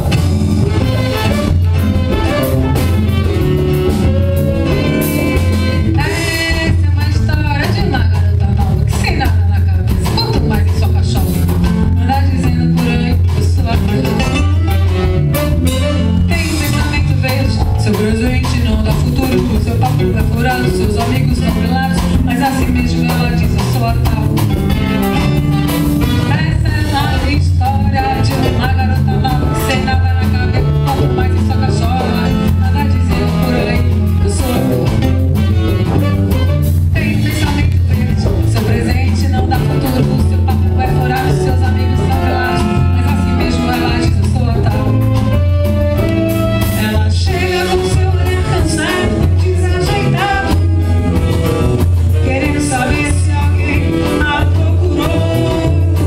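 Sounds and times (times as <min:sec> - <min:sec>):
bass line: 0:00.0 - 0:56.0
live band playing: 0:00.0 - 0:56.0
percussive beat: 0:00.0 - 0:56.0
person singing: 0:00.0 - 0:56.0.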